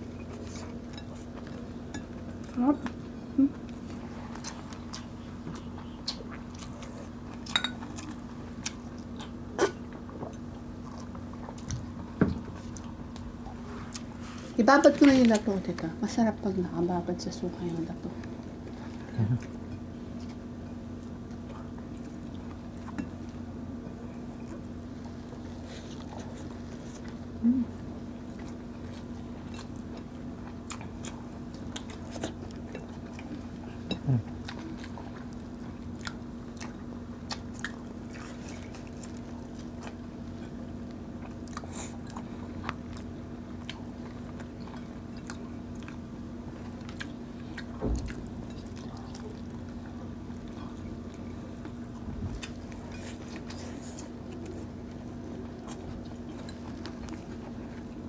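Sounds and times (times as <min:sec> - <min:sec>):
chewing and mouth smacking: 0:00.2 - 0:14.5, 0:18.2 - 0:23.4, 0:24.4 - 0:58.0.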